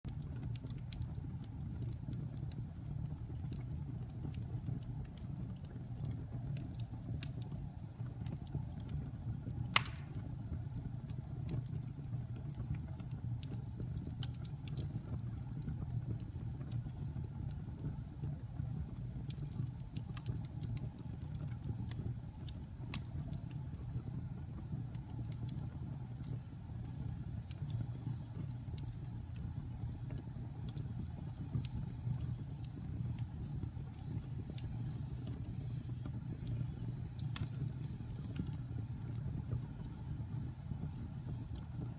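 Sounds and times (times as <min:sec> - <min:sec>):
wood fire crackling: 0:00.1 - 0:41.9.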